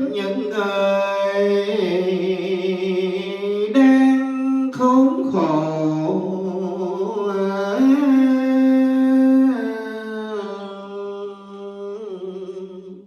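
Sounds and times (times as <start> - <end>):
person chanting poetry: 0.0 - 13.0.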